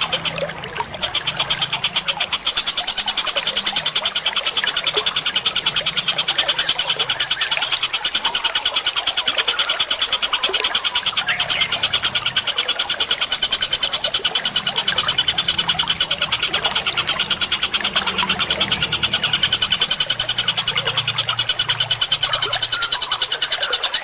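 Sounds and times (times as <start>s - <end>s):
songbird sharp chirps: 0.0s - 24.0s.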